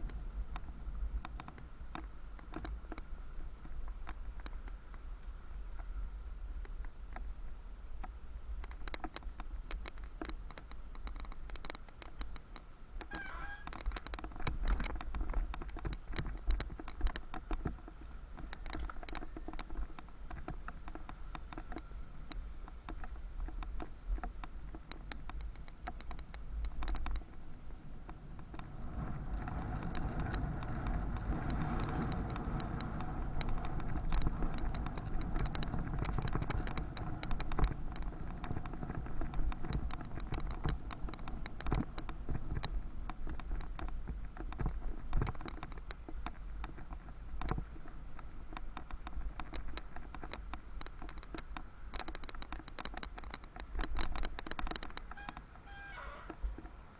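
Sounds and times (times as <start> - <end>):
bicycle rattling and clicking: 0.0 - 5.9, 6.6 - 56.9
street noise: 0.0 - 56.9
tyres rumbling on road: 0.0 - 56.9.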